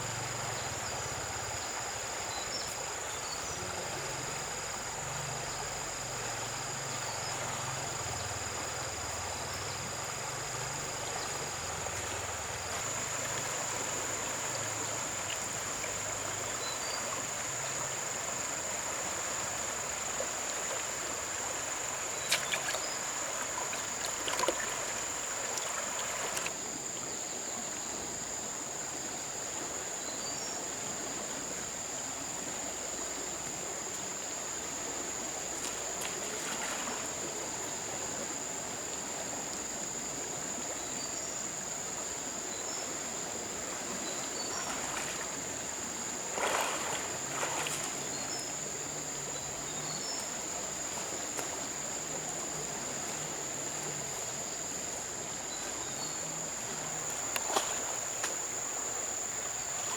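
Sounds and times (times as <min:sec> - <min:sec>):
flowing water rushing: 0:00.0 - 0:30.0, 0:30.6 - 0:59.9.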